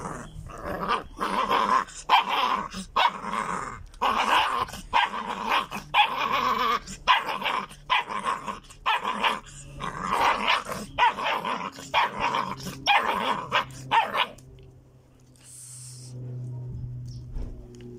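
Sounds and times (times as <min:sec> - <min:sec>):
puppies growling and yipping: 0:00.0 - 0:14.5.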